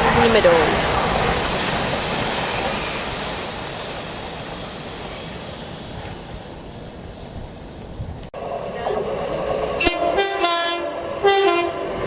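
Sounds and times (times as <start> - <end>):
passing train rumbling: 0.0 - 12.0.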